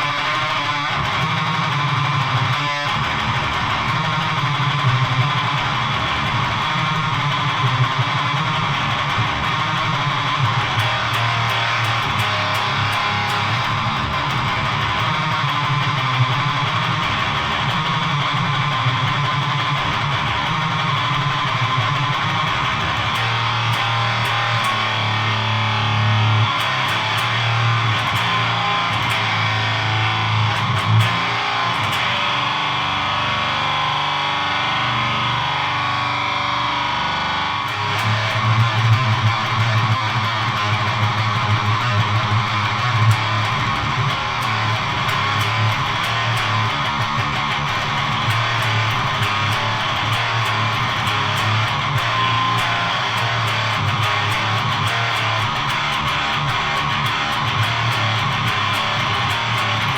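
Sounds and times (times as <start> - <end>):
distorted electric guitar riffs: 0.0 - 59.9.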